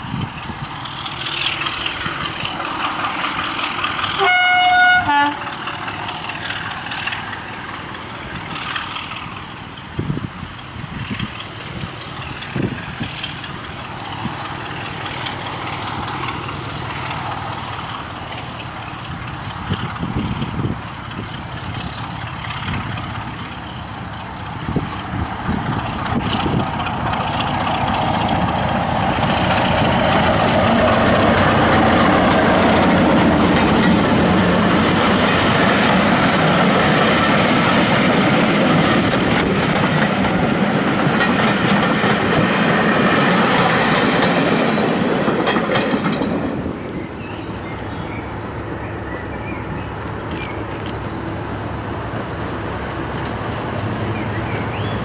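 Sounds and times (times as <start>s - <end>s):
diesel locomotive engine: 0.0s - 55.0s
train coaches rumbling on track: 0.0s - 55.0s.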